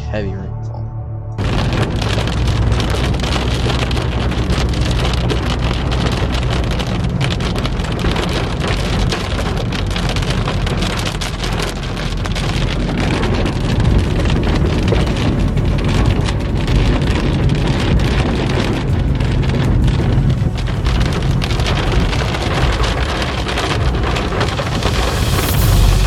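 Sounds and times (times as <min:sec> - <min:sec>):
car rumble: 0:00.0 - 0:26.0
heavy rain on car roof: 0:01.4 - 0:26.0
strong wind: 0:01.4 - 0:26.0.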